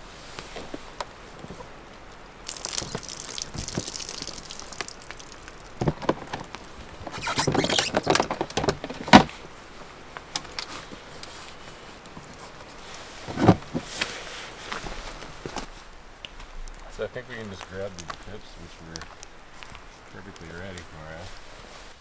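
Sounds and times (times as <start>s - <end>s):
rustling of camp gear: 0.0s - 22.0s.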